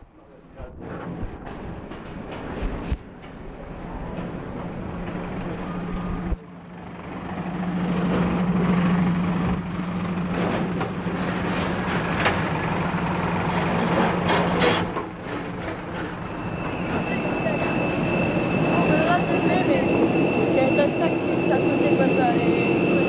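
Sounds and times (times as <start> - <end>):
machinery noise: 0.9 - 23.0
heavy engine idling: 3.1 - 23.0.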